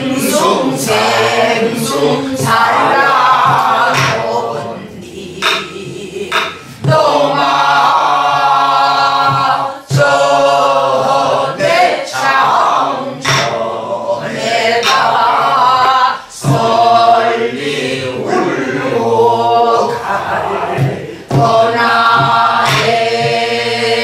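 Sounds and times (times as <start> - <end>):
barrel drum strokes: 0.0 - 18.6, 19.4 - 24.0
group singing folk song: 0.0 - 24.0.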